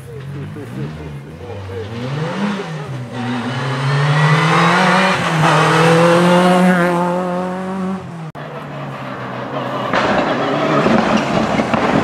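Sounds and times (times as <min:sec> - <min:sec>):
rally car accelerating past: 0:00.2 - 0:12.0.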